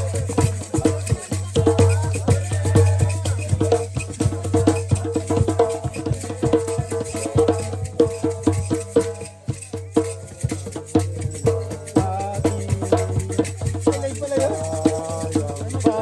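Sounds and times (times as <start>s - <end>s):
music with percussive beat: 0.0s - 16.0s.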